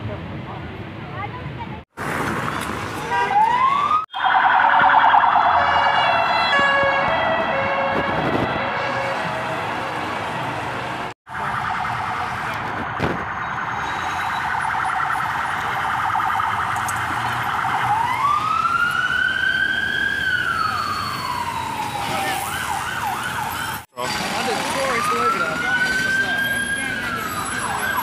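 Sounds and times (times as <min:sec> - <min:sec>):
traffic noise: 0:00.0 - 0:28.0
police siren: 0:03.1 - 0:28.0.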